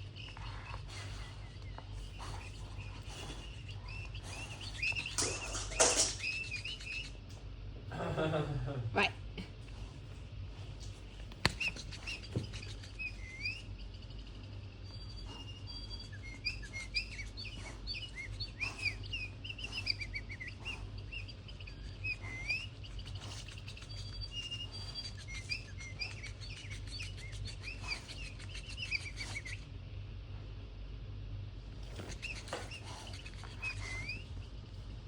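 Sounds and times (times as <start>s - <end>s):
chirping and twittering: 0.0s - 8.4s, 11.0s - 29.8s, 31.8s - 35.0s
steady low hum: 0.0s - 35.0s.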